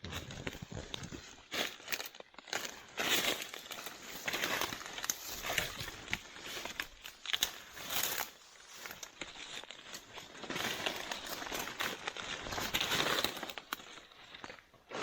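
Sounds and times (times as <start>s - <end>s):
dry leaves rustling and crackling: 0.1s - 15.0s.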